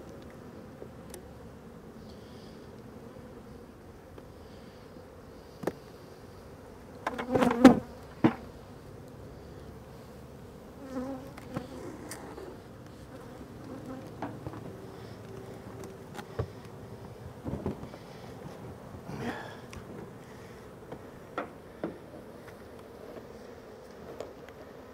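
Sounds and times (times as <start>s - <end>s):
bees buzzing: 0.0s - 24.9s.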